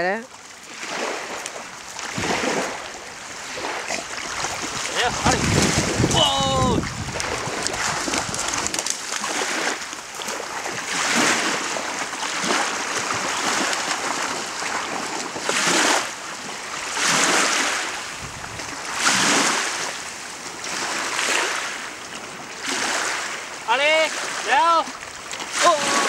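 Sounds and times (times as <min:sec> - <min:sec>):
small waves lapping on shore: 0:00.0 - 0:26.0.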